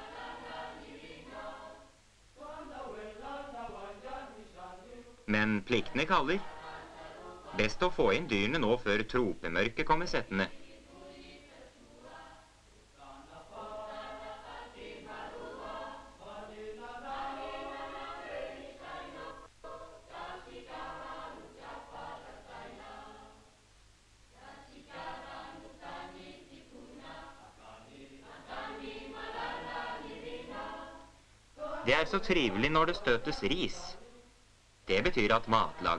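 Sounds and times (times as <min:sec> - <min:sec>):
choir singing: 0:00.0 - 0:23.6, 0:24.3 - 0:34.3, 0:34.9 - 0:35.9.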